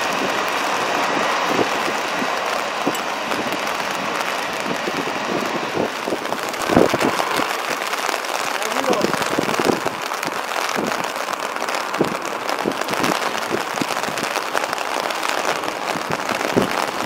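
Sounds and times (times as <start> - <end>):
rain spray crackling on microphone: 0.0 - 17.0.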